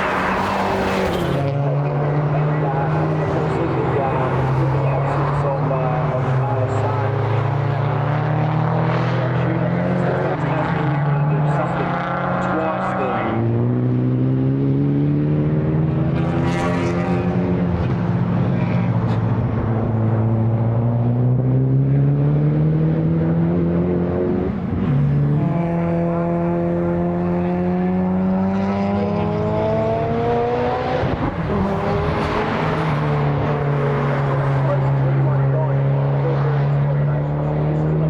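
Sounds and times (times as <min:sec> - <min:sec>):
race car engine accelerating: 0:00.0 - 0:38.0.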